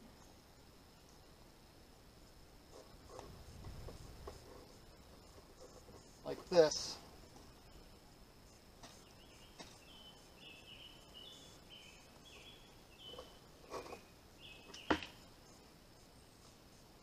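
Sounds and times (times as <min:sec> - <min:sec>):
high insect whine: 0:00.0 - 0:17.0
songbird singing: 0:00.0 - 0:17.0.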